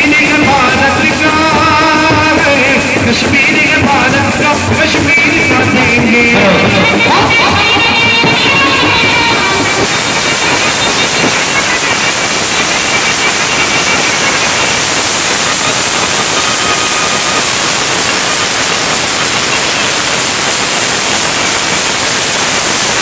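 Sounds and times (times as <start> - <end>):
dense crowd din: 0.0 - 23.0.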